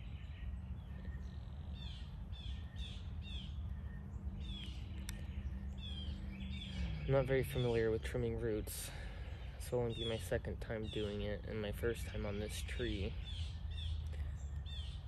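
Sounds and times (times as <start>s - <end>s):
songbird chirping: 0.0s - 15.0s
steady low hum: 0.0s - 15.0s.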